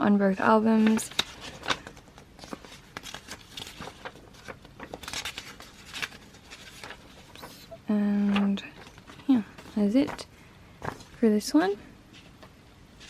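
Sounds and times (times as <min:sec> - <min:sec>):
paper pages rustling: 0:00.6 - 0:13.0.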